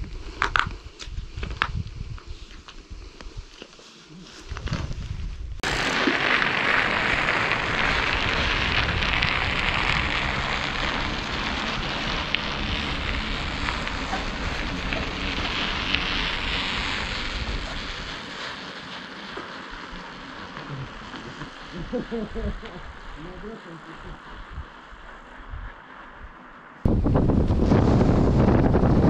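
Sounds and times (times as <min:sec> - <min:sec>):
wind on microphone: 0:00.0 - 0:03.6, 0:04.2 - 0:18.4, 0:20.6 - 0:29.0
bicycle tyres crackling on ice: 0:00.0 - 0:29.0.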